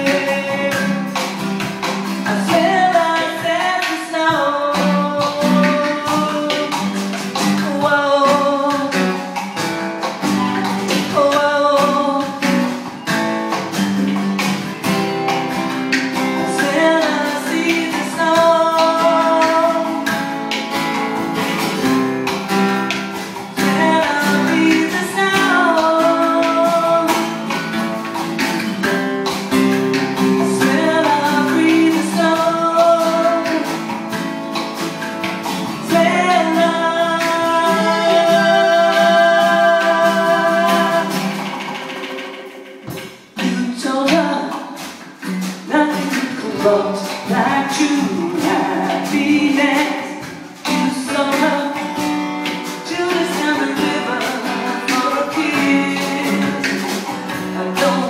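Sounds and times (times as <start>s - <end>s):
acoustic guitar: 0.0s - 58.0s
drums: 0.0s - 58.0s.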